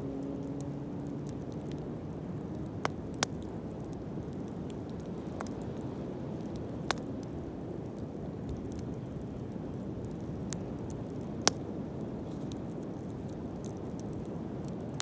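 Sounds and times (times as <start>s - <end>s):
fire crackling pops: 0.1s - 15.0s
bonfire hissing: 0.4s - 15.0s.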